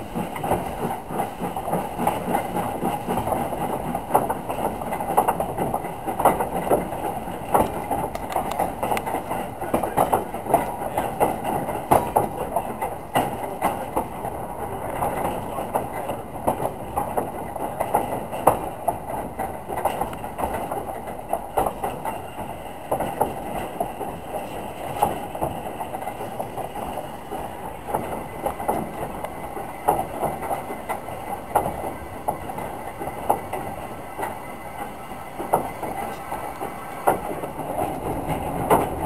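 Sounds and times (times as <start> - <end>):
steam locomotive rumble: 0.0 - 39.0
wheels knocking and clanking: 0.0 - 39.0.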